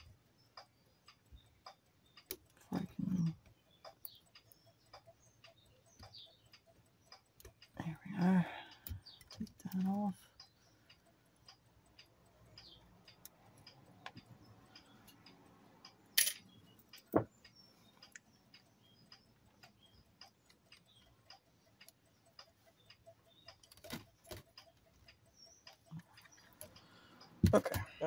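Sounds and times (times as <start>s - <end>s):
faint steady ticking: 0.0s - 28.0s.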